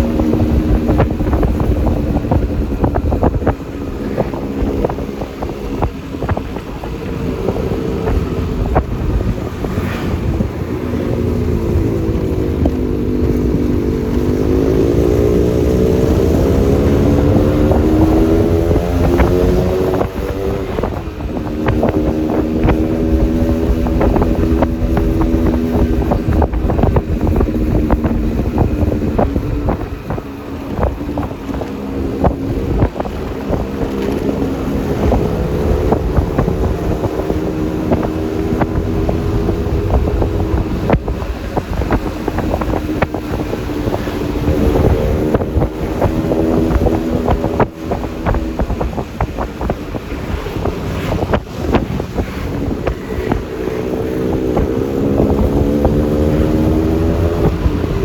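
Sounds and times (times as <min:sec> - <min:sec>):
road noise: 0:00.0 - 0:58.0
scooter engine running: 0:00.0 - 0:58.0
wind buffeting microphone: 0:00.0 - 0:58.0.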